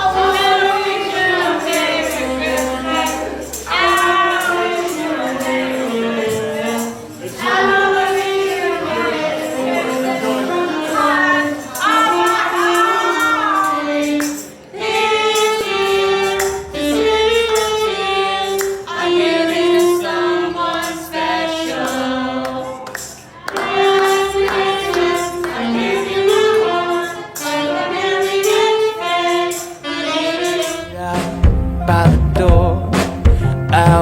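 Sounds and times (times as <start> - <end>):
person singing: 0.0 - 22.7, 23.5 - 34.0
musical accompaniment: 0.0 - 34.0.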